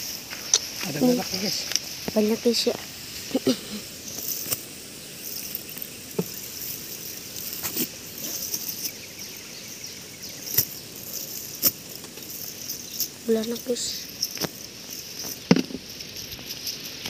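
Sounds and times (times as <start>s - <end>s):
insects shrilling: 0.0s - 17.0s
net dragged over dry leaves: 0.0s - 17.0s.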